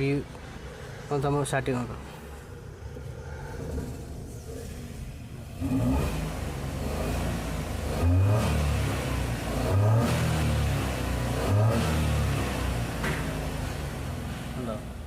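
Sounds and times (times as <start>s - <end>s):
car engine revving: 1.8s - 15.0s.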